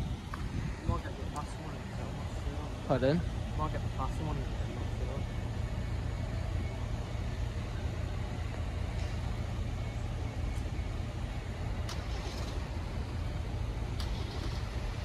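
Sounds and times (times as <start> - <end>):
traffic rumble: 0.0 - 15.0
wind: 0.0 - 15.0.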